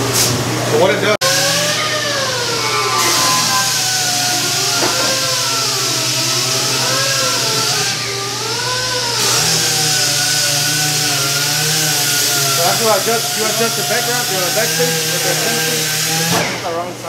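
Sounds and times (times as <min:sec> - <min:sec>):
whining machine tones: 0:01.2 - 0:15.5.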